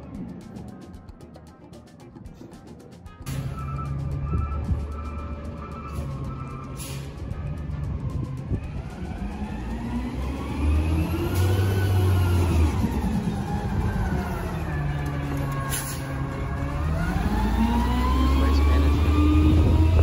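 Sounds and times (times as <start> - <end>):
garbage truck diesel engine revving: 3.3 - 20.0.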